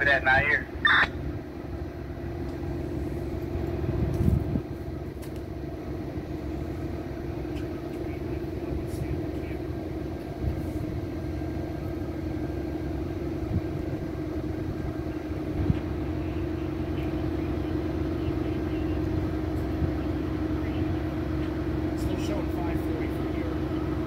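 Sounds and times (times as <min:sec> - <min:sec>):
diesel train idling: 0:00.0 - 0:24.0.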